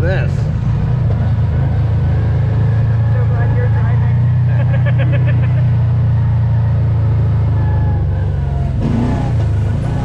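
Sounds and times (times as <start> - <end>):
off-road vehicle engine drone: 0.0 - 10.0.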